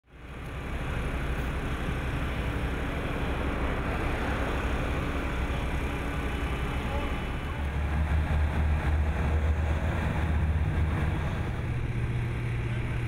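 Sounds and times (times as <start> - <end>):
heavy diesel engine running: 0.1 - 13.0.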